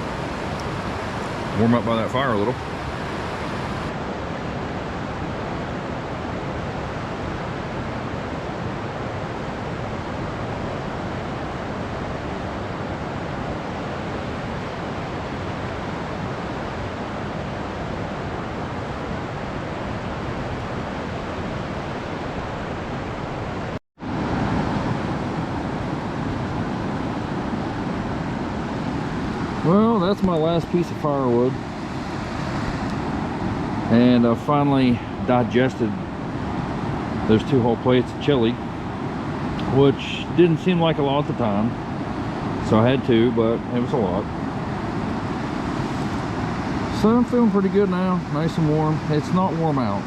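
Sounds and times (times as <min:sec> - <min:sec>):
river rapids rushing: 0:00.0 - 0:37.7, 0:43.6 - 0:50.0.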